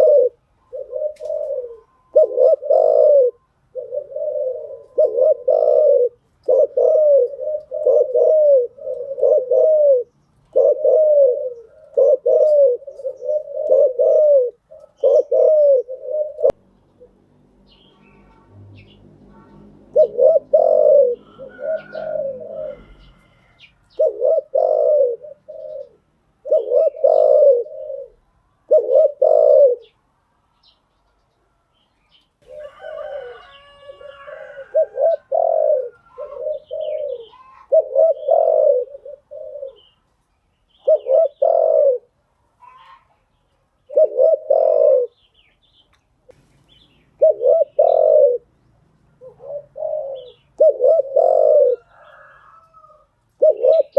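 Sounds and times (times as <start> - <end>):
dove cooing: 0.0 - 18.2, 18.8 - 30.0, 32.4 - 40.0, 40.7 - 43.1, 43.8 - 45.4, 46.4 - 48.5, 49.2 - 53.9.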